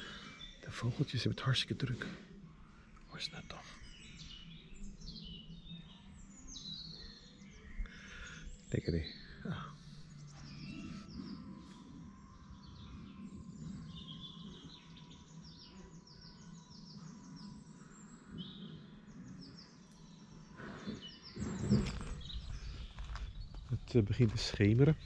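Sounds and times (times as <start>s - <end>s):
songbirds singing and chirping: 0.0s - 25.0s.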